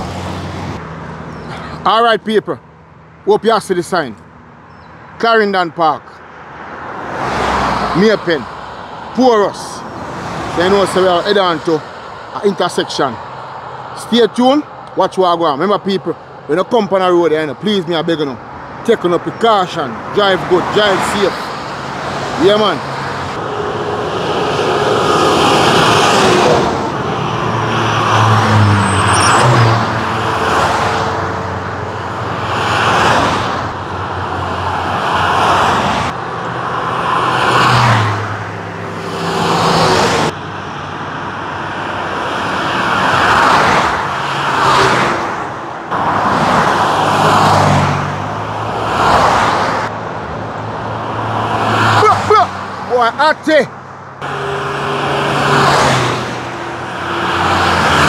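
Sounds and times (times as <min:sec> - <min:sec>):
vehicles passing on highway: 0:00.0 - 0:58.0.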